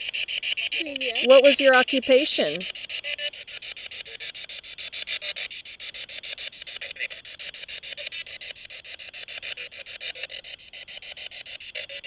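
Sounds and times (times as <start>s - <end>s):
choppy radio static stutter: 0.0s - 12.0s.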